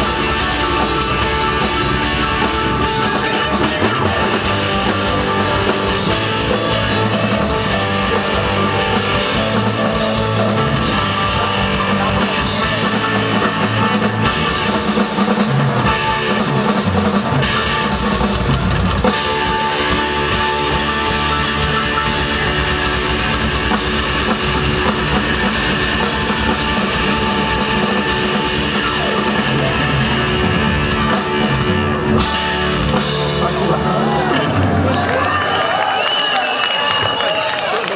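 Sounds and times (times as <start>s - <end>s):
drum kit: 0.0s - 34.9s
rock band guitars: 0.0s - 37.9s.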